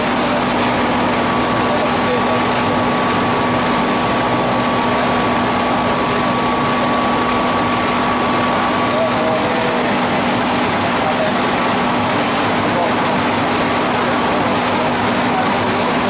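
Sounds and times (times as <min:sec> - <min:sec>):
veneer lathe machine running: 0:00.0 - 0:16.0.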